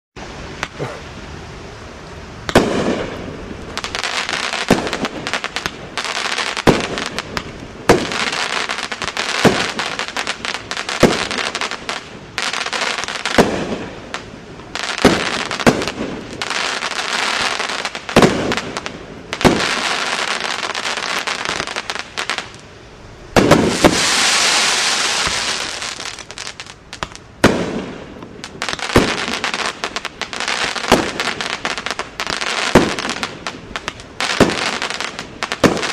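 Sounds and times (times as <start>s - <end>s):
firework hissing crackle: 0.2s - 35.9s
firework bangs: 2.4s - 22.6s, 23.2s - 35.9s.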